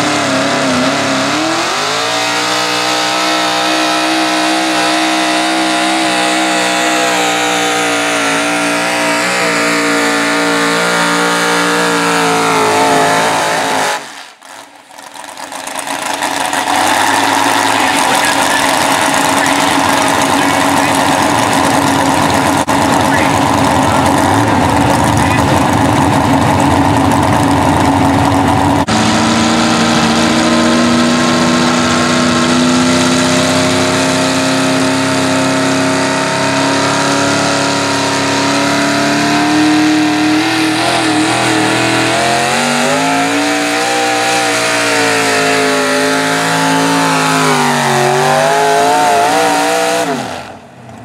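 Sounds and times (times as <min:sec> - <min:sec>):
tractor engine revving under load: 0:00.0 - 0:14.7, 0:15.3 - 0:51.0.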